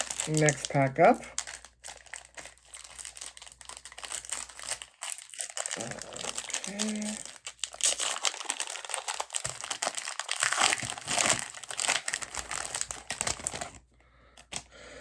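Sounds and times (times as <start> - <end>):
foil wrapper tearing and crinkling: 0.0 - 13.8.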